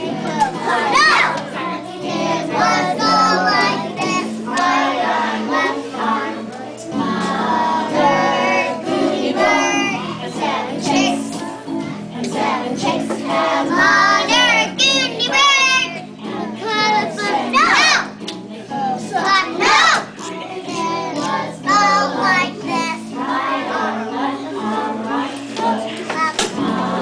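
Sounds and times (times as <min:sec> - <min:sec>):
children singing: 0:00.0 - 0:27.0
musical accompaniment: 0:00.0 - 0:27.0.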